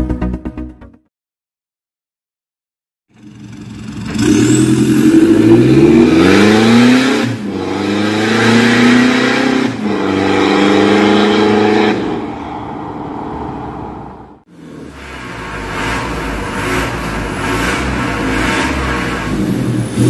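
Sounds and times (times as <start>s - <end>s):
car engine accelerating hard: 3.2s - 20.0s.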